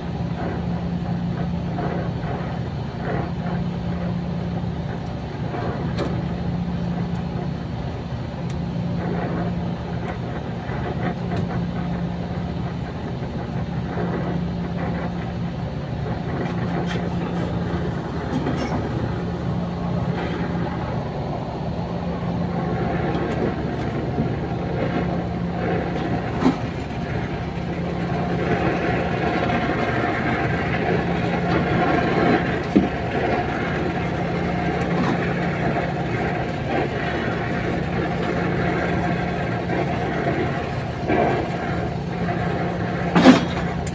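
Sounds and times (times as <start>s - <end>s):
brazing torch burning: 0.0s - 43.9s
low machine hum: 0.0s - 43.9s.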